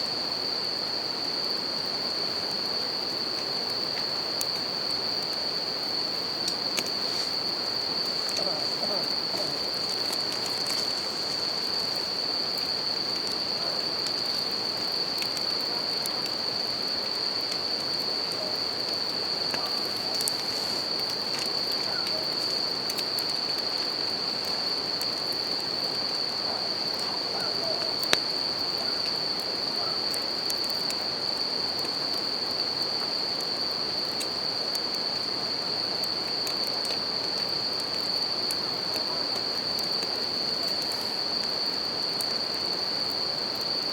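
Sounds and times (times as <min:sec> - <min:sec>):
crickets trilling: 0:00.0 - 0:43.9
campfire crackling and popping: 0:01.2 - 0:43.9.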